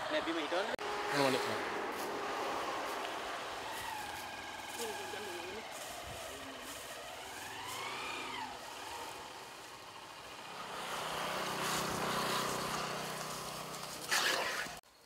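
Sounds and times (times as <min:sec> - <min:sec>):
motorcycle passing by: 0:00.0 - 0:14.8.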